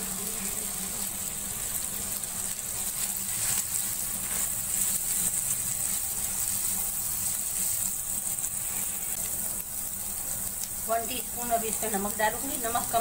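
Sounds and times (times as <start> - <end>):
vegetables sizzling in hot oil: 0.0 - 13.0
spatula stirring in pan: 0.1 - 10.8.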